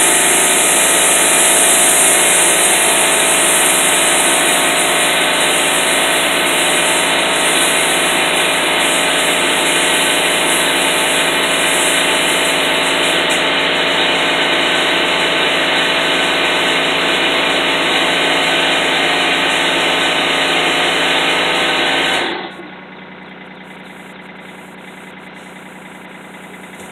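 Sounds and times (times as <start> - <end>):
air compressor running: 0.0 - 26.9.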